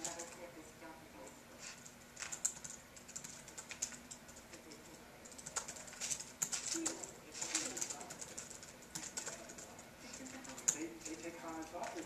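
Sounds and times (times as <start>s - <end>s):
keyboard typing: 0.0s - 0.5s, 1.7s - 12.0s.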